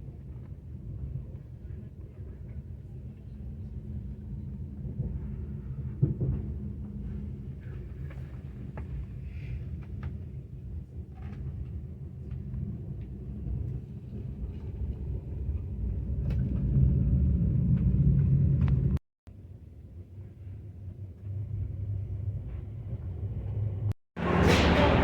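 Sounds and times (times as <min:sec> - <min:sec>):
train rumble inside carriage: 0:00.0 - 0:19.0, 0:19.9 - 0:25.0.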